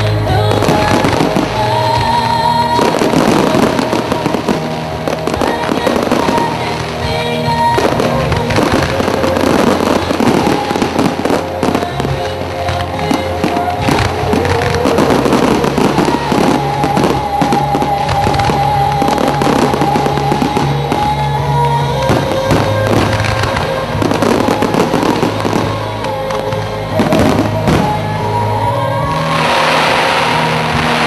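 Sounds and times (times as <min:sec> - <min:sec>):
fireworks bangs and crackling: 0:00.0 - 0:31.0
music soundtrack: 0:00.0 - 0:31.0.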